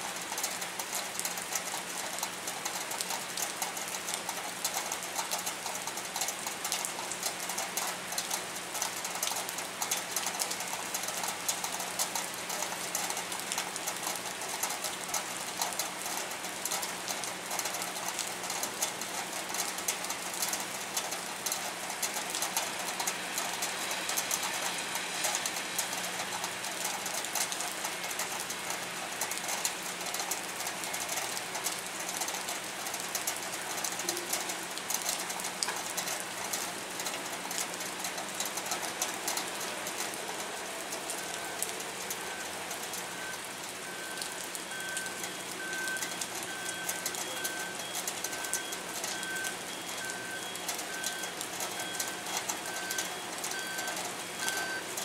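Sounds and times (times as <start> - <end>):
rain falling on concrete and water: 0.0 - 55.0.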